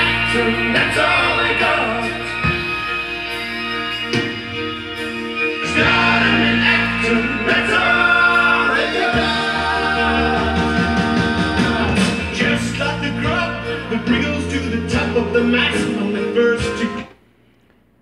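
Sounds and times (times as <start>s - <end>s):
music with singing from vinyl record: 0.0s - 17.3s.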